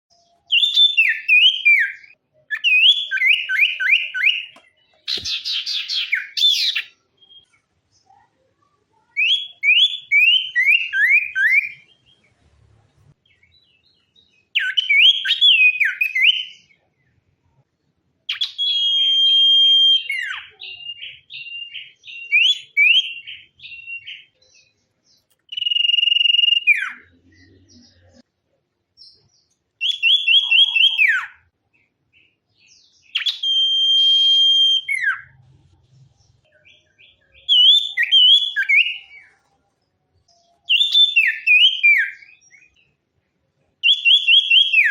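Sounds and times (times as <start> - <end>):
songbird whistling song: 0.1 - 12.3, 13.2 - 16.8, 18.3 - 28.2, 29.0 - 31.5, 32.1 - 35.4, 36.4 - 39.5, 40.2 - 43.0, 43.8 - 44.9.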